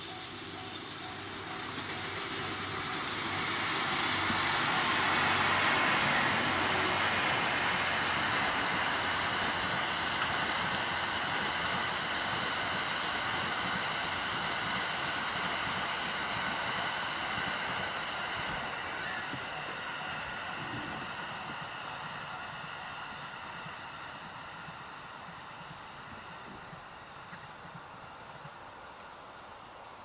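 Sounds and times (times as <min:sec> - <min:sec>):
train wheel and rail noise: 0:00.0 - 0:30.0.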